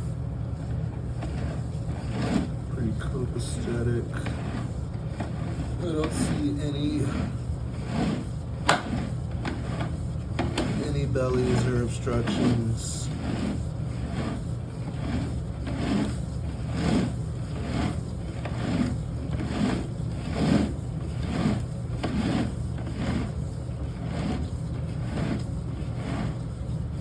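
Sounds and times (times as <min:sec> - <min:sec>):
cable scraping in drain: 0:00.0 - 0:27.0
steady low hum: 0:00.0 - 0:27.0.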